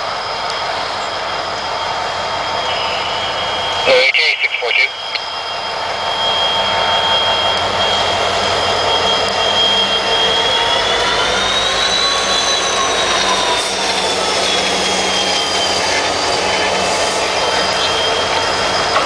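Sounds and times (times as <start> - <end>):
locomotive engines whining: 0.0 - 19.0.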